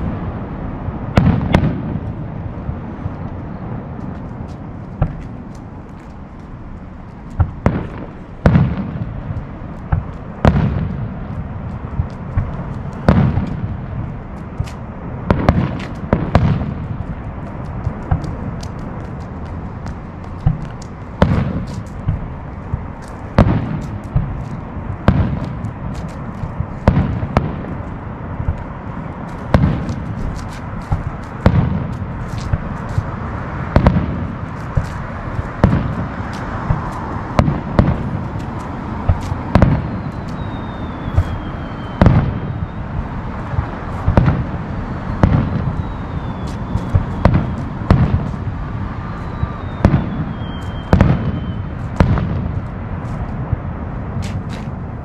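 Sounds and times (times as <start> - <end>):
distant fireworks booms: 0.0 - 55.0.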